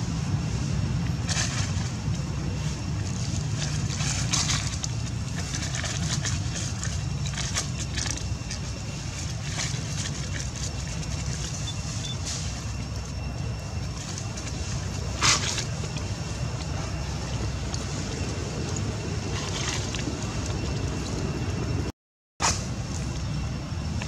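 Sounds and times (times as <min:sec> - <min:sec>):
low rumble: 0:00.0 - 0:21.9.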